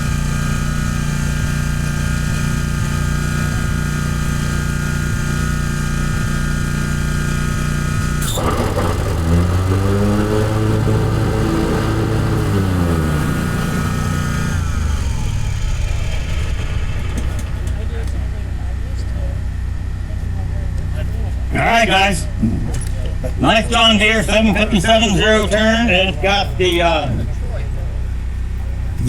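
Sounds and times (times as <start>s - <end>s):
riding mower engine running: 0.0s - 29.0s.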